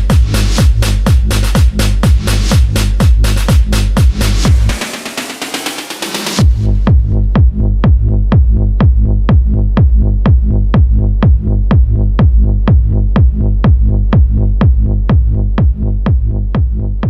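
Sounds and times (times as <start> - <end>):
steady low bass: 0.0 - 5.5, 6.2 - 17.0
electronic dance kick drum: 0.0 - 17.0.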